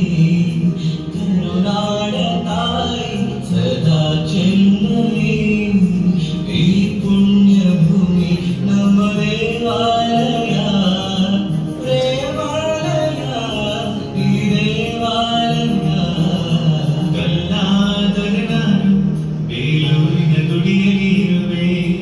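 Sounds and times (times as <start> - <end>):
song through portable loudspeaker: 0.0 - 22.0.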